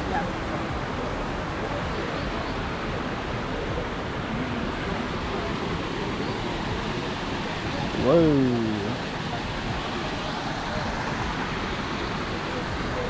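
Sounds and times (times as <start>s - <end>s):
falling water rushing: 0.0s - 13.0s.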